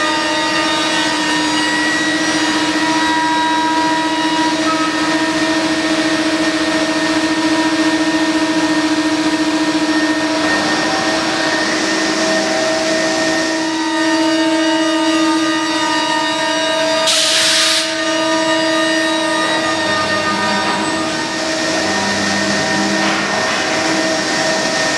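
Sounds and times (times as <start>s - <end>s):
router spindle cutting wood: 0.0s - 17.1s, 17.9s - 24.9s.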